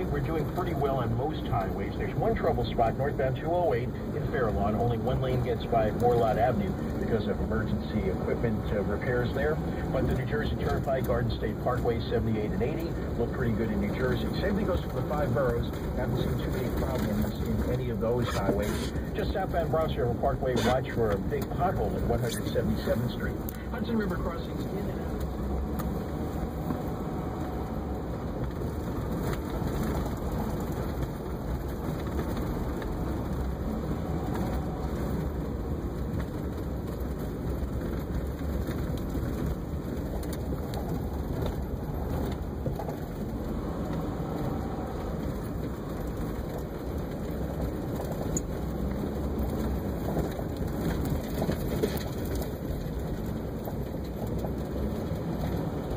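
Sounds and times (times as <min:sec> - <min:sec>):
low engine rumble: 0:00.0 - 0:55.9
tyres running through snow: 0:00.0 - 0:55.9.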